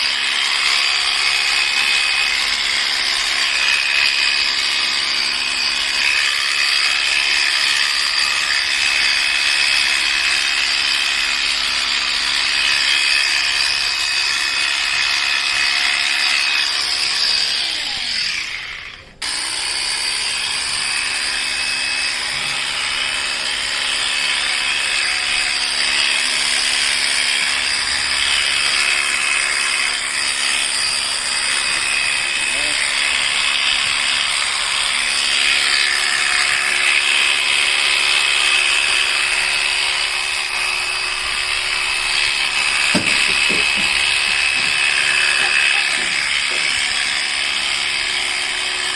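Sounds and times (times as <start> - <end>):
electric clippers whining: 0.0 - 48.9.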